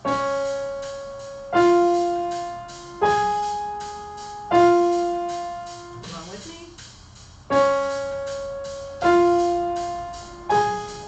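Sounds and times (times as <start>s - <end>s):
piano melodic pattern: 0.0s - 6.8s, 7.4s - 11.0s.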